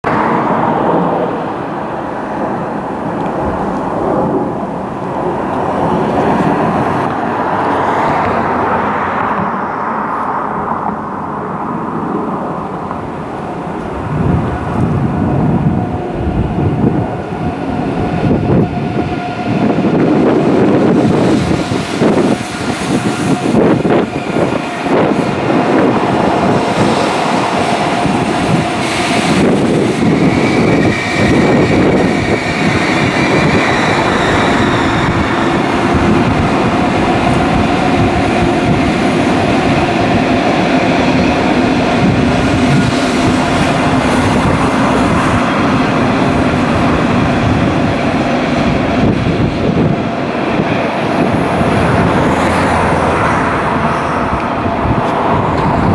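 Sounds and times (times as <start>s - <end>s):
high whine: 0.0s - 55.9s
train wheels rumbling on rail: 0.0s - 55.9s
wind buffeting microphone: 0.0s - 55.9s.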